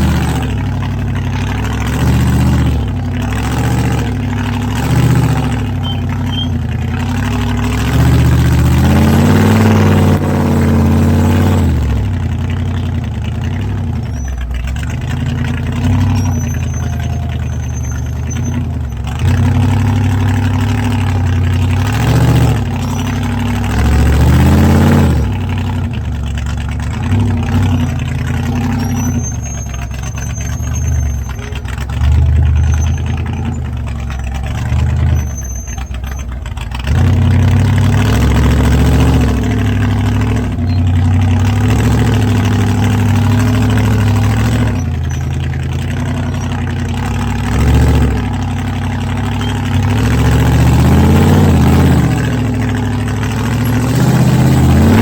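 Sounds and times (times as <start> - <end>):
high squeaks: 0.0 - 11.6, 12.3 - 37.0, 38.0 - 55.0
off-road engine revving: 0.0 - 55.0.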